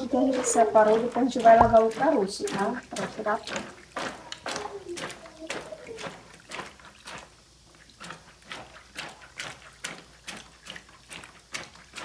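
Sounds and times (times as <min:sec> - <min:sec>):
bottle pounding berries in basin: 0:00.0 - 0:12.0.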